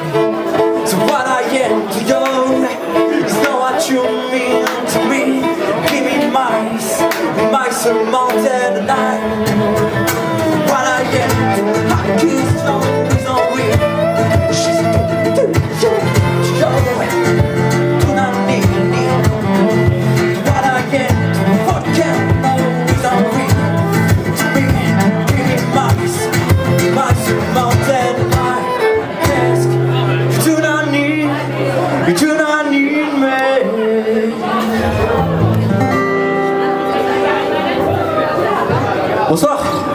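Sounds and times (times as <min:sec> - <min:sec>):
person singing: 0:00.0 - 0:37.0
acoustic guitar strumming: 0:00.0 - 0:39.9.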